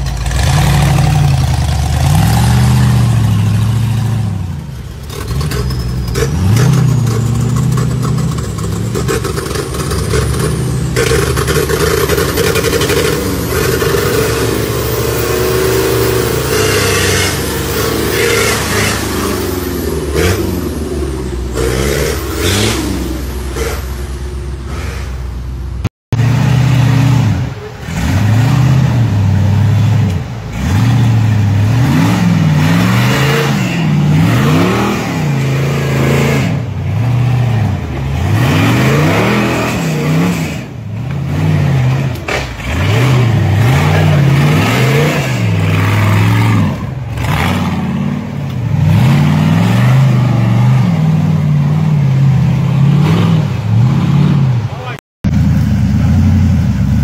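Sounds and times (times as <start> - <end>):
off-road engine revving hard: 0.0 - 25.4, 26.1 - 57.0.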